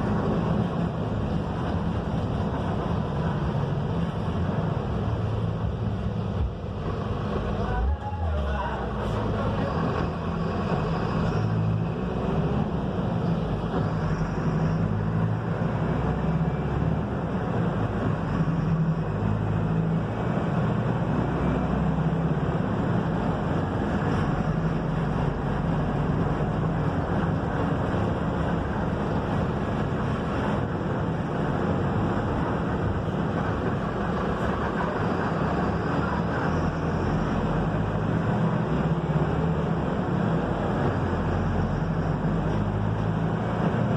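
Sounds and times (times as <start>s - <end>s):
bus diesel engine humming: 0.0s - 43.9s
road noise: 0.0s - 43.9s.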